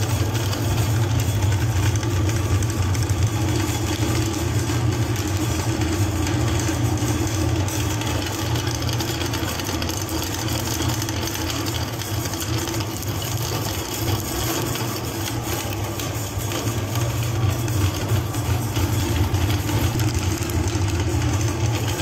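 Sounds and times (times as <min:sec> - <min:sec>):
electric meat grinder humming: 0:00.0 - 0:22.0.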